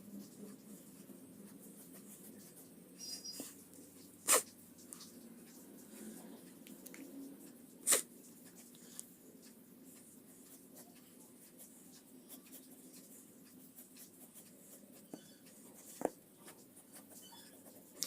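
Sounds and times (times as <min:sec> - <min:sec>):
pencil scratching on paper: 0:00.0 - 0:06.3, 0:07.0 - 0:18.0.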